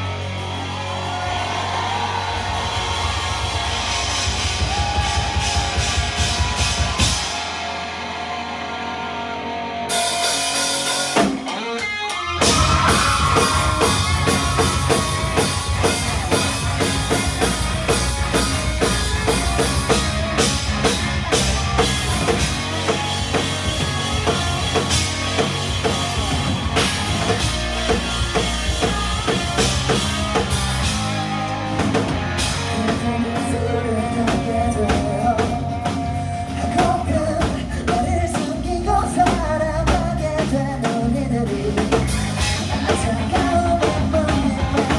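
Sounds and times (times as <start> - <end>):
rock band playing live: 0.0 - 44.9.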